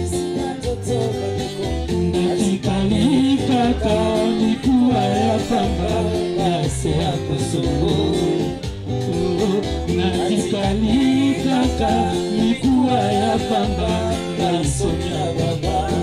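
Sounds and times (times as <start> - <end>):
guitar: 0.0 - 16.0
person singing: 0.0 - 16.0
repeating bass line: 0.0 - 16.0.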